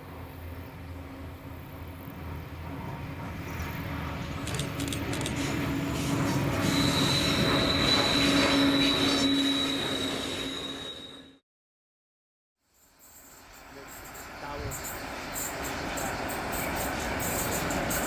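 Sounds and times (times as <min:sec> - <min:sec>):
train wheels squealing on rails: 0:02.2 - 0:11.4, 0:12.8 - 0:18.0.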